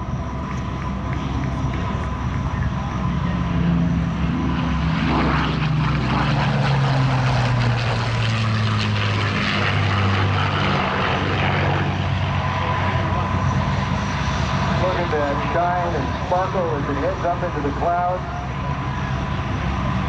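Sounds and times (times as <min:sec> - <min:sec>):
propeller aircraft low pass: 0:00.0 - 0:20.0.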